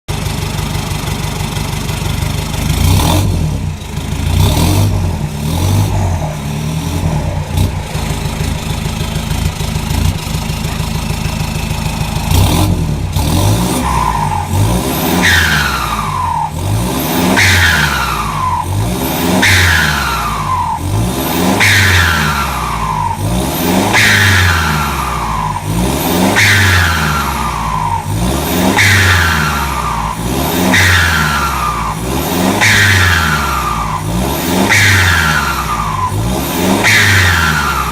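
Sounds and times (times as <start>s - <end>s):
pickup engine idling and revving: 0.0s - 37.9s.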